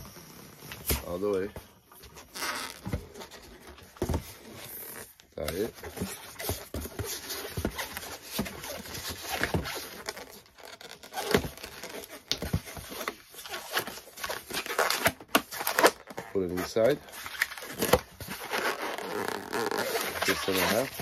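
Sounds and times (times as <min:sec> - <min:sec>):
balloons rubbing and crinkling: 0:00.0 - 0:21.0
balloon squeaks: 0:02.0 - 0:03.7, 0:04.4 - 0:21.0.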